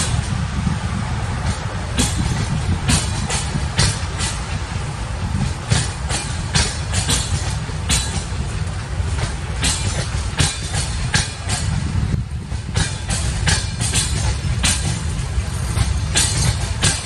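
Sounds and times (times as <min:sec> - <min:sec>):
train coaches rolling past: 0:00.0 - 0:17.0
wheels clacking on rails: 0:00.0 - 0:17.0.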